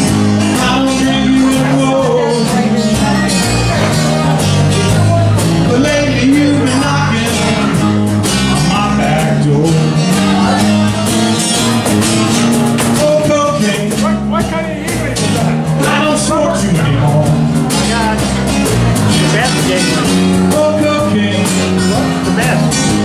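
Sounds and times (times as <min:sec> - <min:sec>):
bass line: 0:00.0 - 0:23.0
live blues band playing: 0:00.0 - 0:23.0
strummed acoustic guitars: 0:00.0 - 0:23.0.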